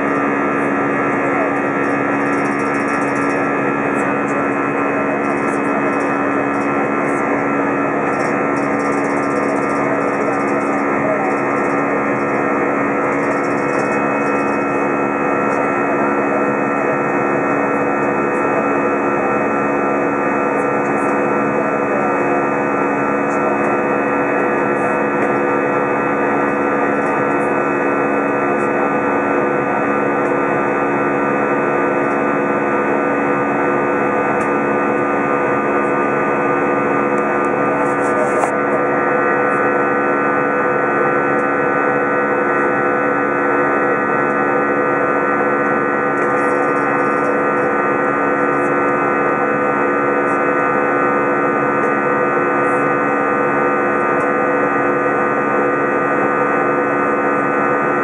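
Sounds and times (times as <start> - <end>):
jet engine drone in cabin: 0.0 - 58.0
steady humming tones: 0.0 - 58.0.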